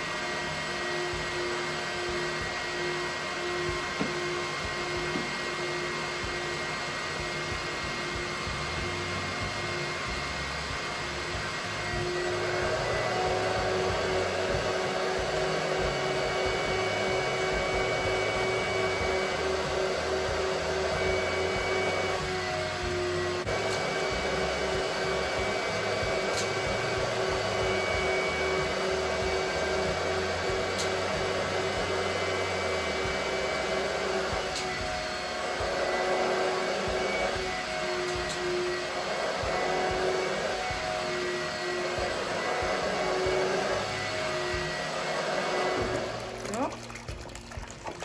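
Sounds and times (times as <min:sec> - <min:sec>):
vacuum motor whirring: 0:00.0 - 0:48.0.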